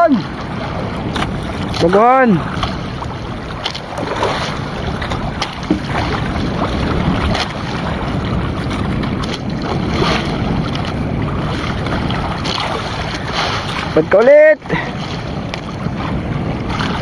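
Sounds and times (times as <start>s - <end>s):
water slapping against boat hull: 0.0s - 17.0s
wind buffeting microphone: 0.0s - 17.0s.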